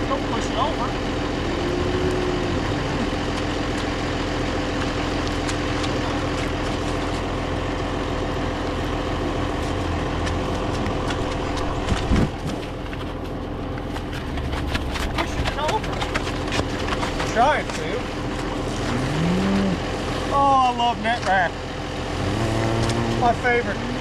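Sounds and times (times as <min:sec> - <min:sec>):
tractor diesel engine idling: 0:00.0 - 0:18.9, 0:19.8 - 0:22.1.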